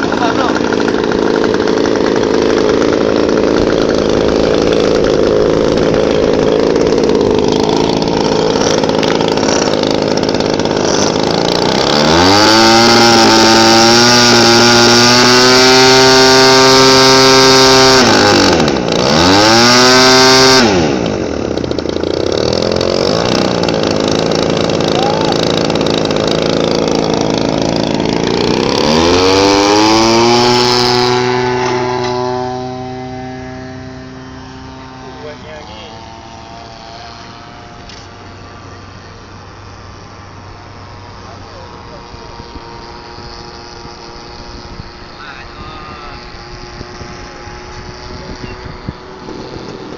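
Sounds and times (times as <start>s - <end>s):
model plane engine whine: 0.0s - 49.9s.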